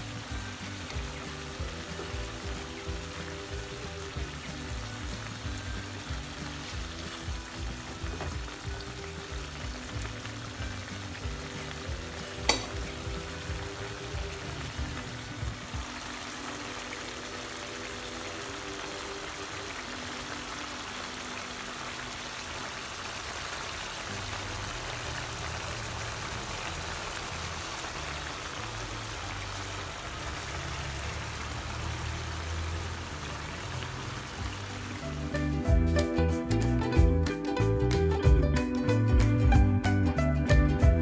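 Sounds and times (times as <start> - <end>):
sauce simmering in a frying pan: 0.0 - 37.1.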